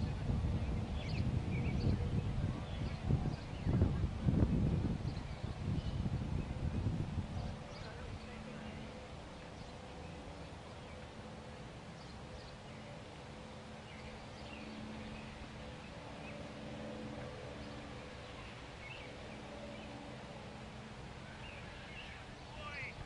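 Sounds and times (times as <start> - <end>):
background hiss: 0.0 - 23.0
faint low hum: 0.0 - 23.0.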